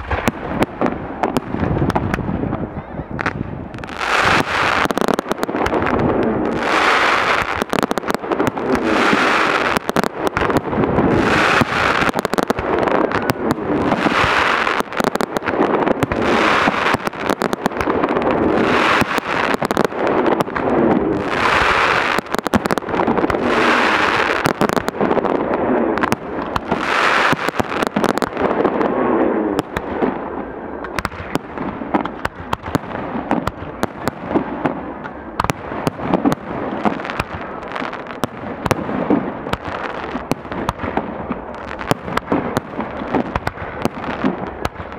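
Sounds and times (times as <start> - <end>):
fireworks bangs and crackling: 0.0 - 44.9
fireworks rushing bursts: 0.0 - 44.9.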